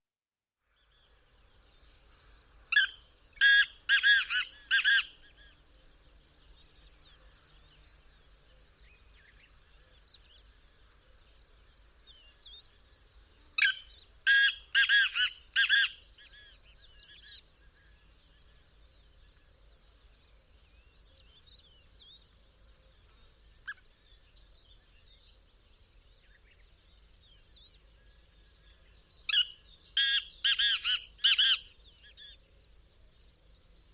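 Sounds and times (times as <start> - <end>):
faint bird chirps: 0.6 - 33.9
francolin calling: 1.5 - 25.4, 26.2 - 32.7.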